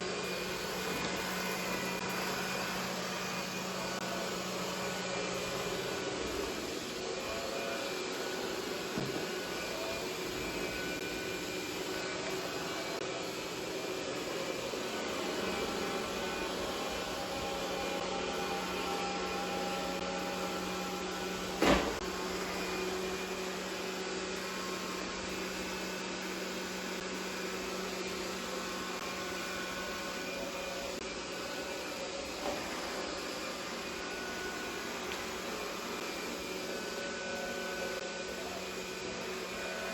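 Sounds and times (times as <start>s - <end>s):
robot vacuum humming: 0.0s - 39.9s.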